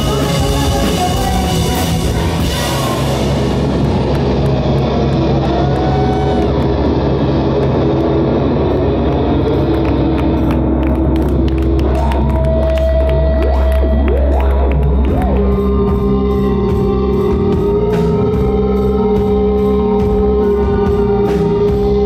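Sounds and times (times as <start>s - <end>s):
drums: 0.0s - 22.0s
electric guitar: 0.0s - 22.0s.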